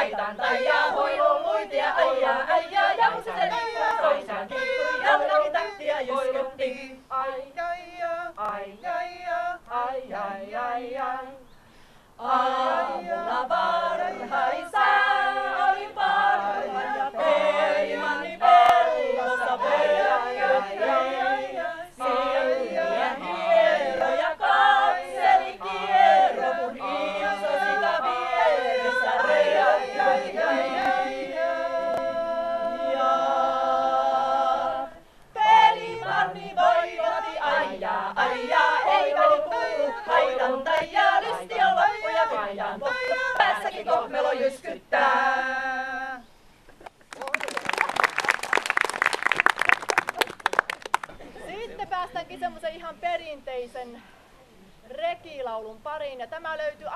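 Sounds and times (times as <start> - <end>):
women singing a cappella: 0.0 - 46.3.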